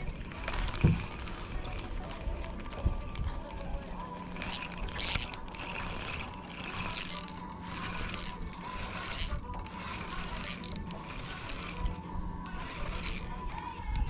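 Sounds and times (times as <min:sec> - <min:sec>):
fishing reel whirring: 0:00.0 - 0:14.0.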